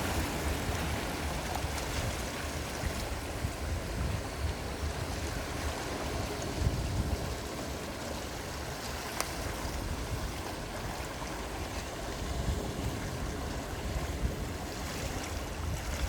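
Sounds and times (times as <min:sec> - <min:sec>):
gentle sea waves: 0:00.0 - 0:16.0
wind rumble on microphone: 0:00.0 - 0:16.0.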